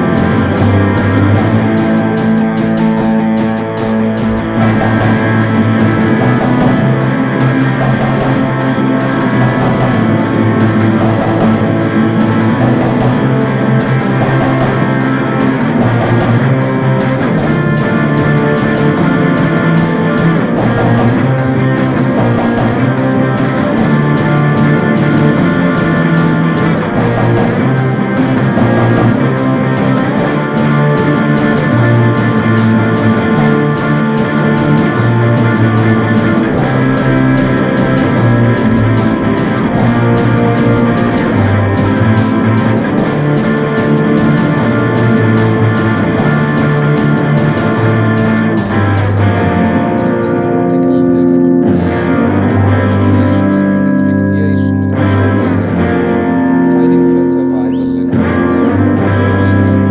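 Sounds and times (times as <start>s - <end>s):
guitar rock music: 0.0s - 59.9s.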